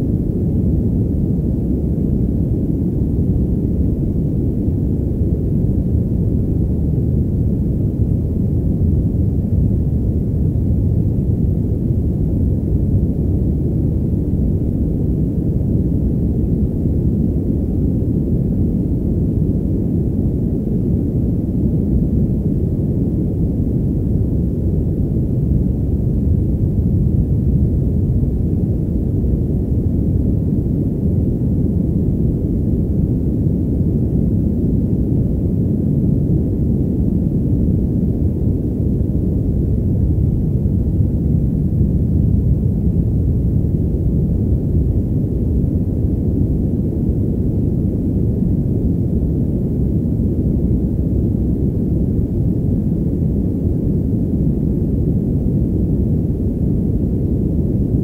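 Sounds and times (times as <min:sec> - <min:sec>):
muffled white noise: 0:00.0 - 0:58.0.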